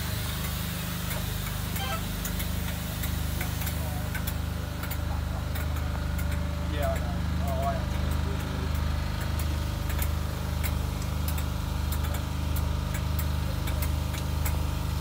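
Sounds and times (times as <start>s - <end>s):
locomotive engine idling: 0.0s - 15.0s
light ticks: 2.2s - 14.6s.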